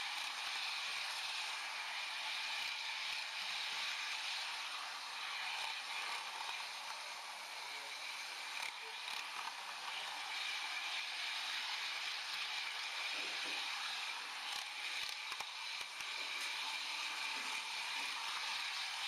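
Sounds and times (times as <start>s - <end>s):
model train rolling hiss: 0.0s - 19.0s.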